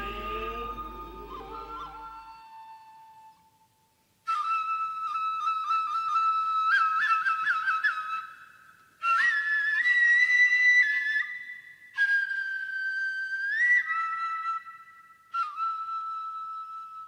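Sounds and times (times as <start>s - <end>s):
bamboo flute playing: 0.0s - 17.0s.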